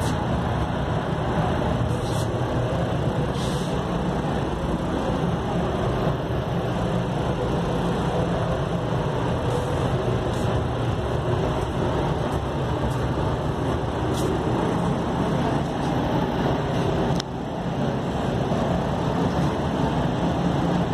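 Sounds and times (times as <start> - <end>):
ventilation air rushing: 0.0 - 20.9.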